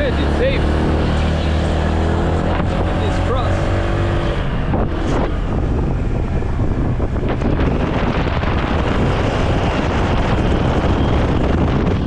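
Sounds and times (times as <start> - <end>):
road noise: 0.0 - 12.0
wind rushing over microphone: 0.0 - 12.0.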